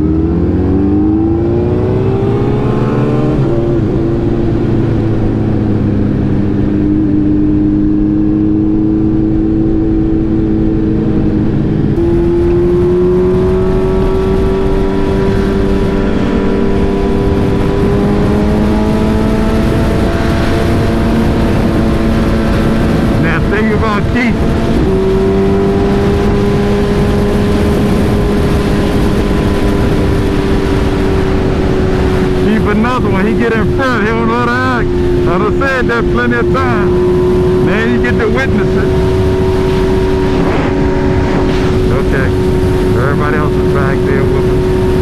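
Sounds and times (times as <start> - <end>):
motorcycle engine accelerating: 0.0 - 45.0
wind noise: 0.0 - 45.0.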